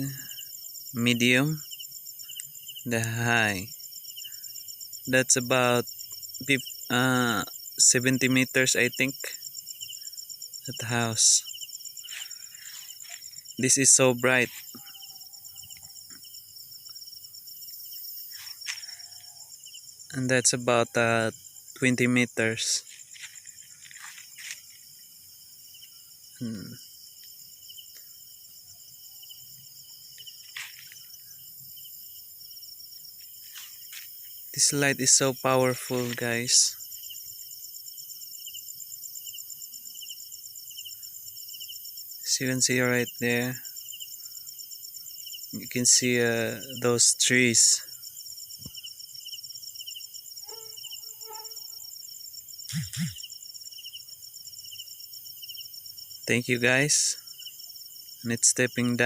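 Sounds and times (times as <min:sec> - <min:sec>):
night insects trilling: 0:00.0 - 0:59.0.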